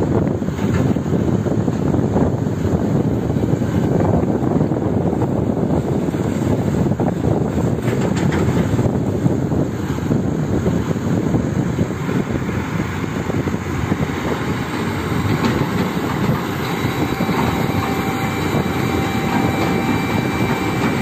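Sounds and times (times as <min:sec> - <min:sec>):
heavy diesel machinery droning: 0:00.0 - 0:21.0.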